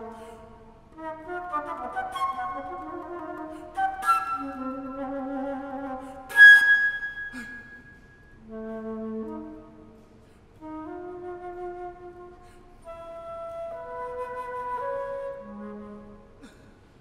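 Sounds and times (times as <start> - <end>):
solo flute playing: 0.0 - 16.4.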